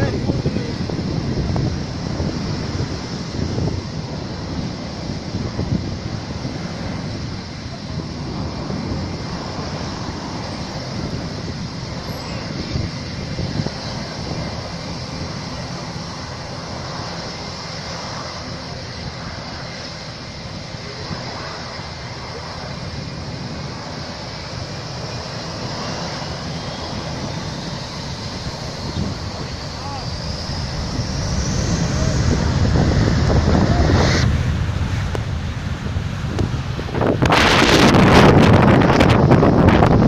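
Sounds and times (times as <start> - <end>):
faint rising whine: 0.0 - 40.0
jet engines running: 0.0 - 40.0.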